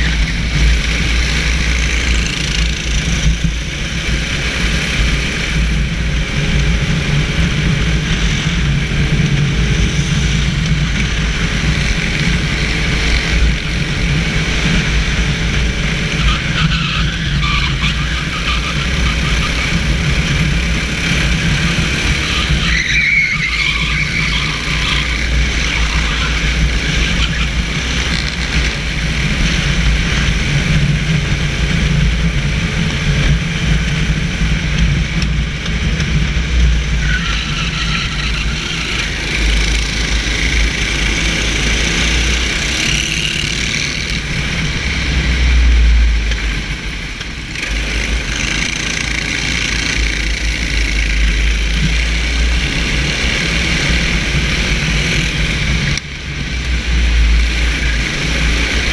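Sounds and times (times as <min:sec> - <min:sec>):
kart engine rumbling: 0:00.0 - 0:58.9
wind and tyre hiss: 0:00.0 - 0:58.9.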